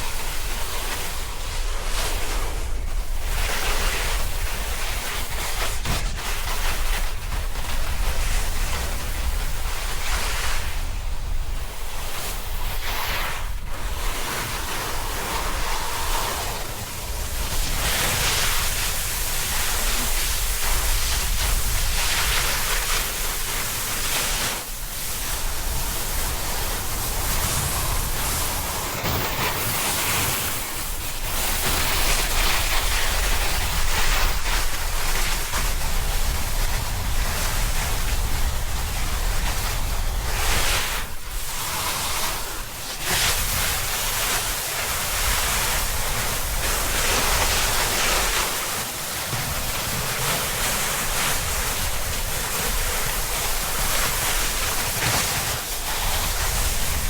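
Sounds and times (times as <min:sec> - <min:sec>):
snowboard carving on snow: 0:00.0 - 0:57.0.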